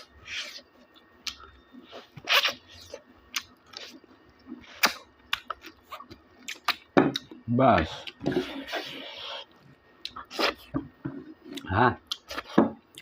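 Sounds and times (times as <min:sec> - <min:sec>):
person chewing and eating: 0:00.0 - 0:10.7, 0:11.3 - 0:13.0.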